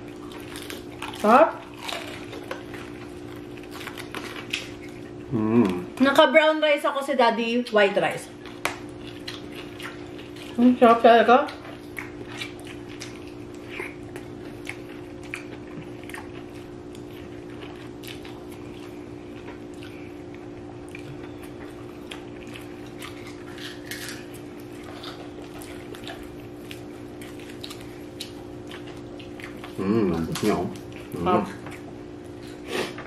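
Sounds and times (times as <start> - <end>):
chewing: 0.0 - 6.0, 8.3 - 33.0
steady low hum: 0.0 - 33.0.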